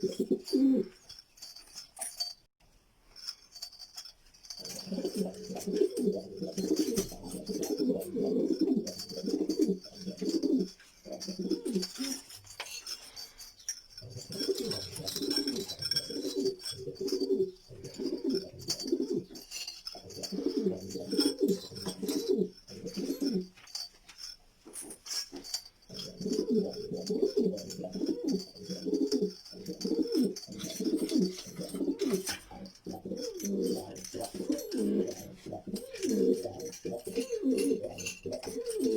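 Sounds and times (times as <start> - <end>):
pigeons cooing: 0.0 - 1.0, 4.6 - 12.3, 14.0 - 23.6, 24.8 - 38.9.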